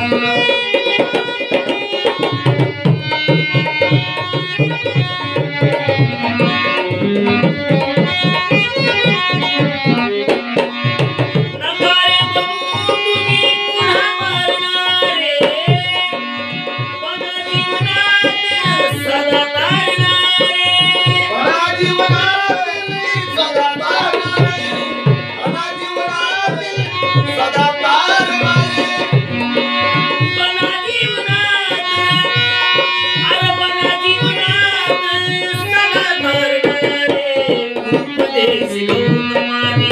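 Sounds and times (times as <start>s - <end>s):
tabla drumming: 0.0s - 39.9s.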